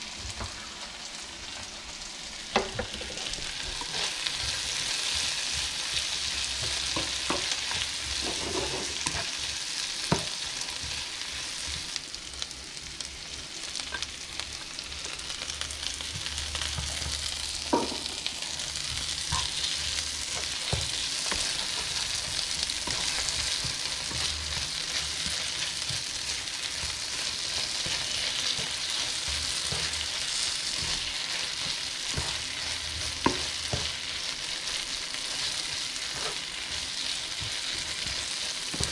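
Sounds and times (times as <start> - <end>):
vegetables sizzling in a frying pan: 0.0 - 38.9.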